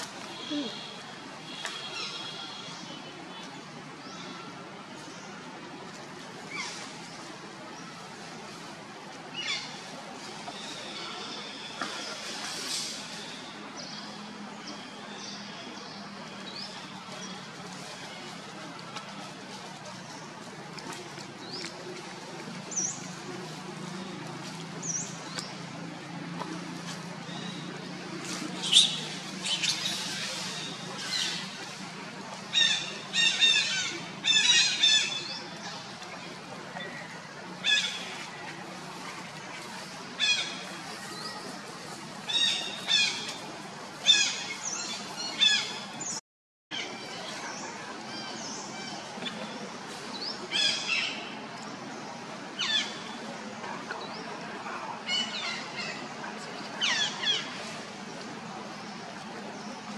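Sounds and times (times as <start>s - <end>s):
steady outdoor hiss: 0.0s - 59.9s.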